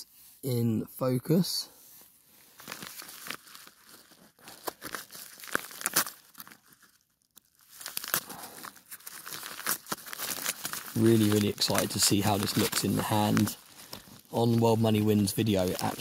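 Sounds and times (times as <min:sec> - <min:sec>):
paper envelope tearing and crinkling: 0:02.5 - 0:16.0.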